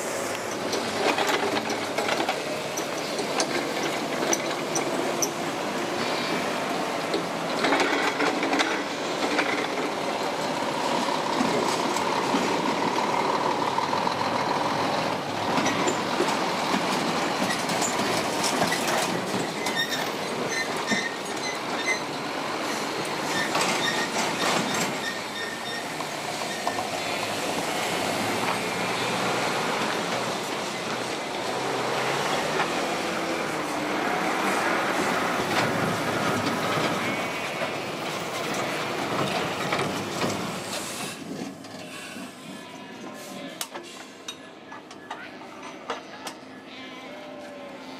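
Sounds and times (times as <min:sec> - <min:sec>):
trailer wheels clanking over rails: 0:00.0 - 0:42.3
lorry diesel engines running: 0:00.0 - 0:47.9.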